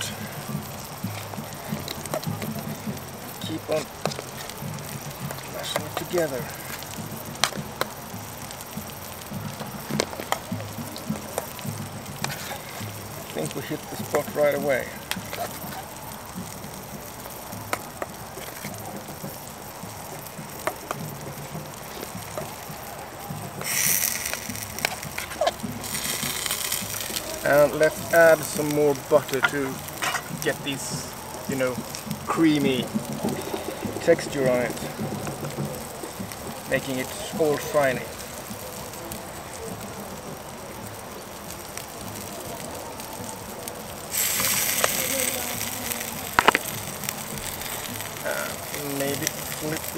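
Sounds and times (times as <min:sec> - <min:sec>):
potatoes being mashed: 0:00.0 - 0:49.9
sausages sizzling in a pan: 0:00.0 - 0:49.9.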